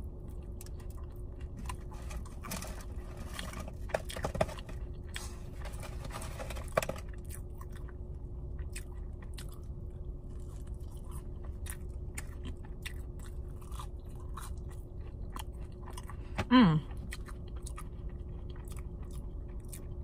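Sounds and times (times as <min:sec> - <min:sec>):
crisp chewing crunches: 0:00.1 - 0:20.0.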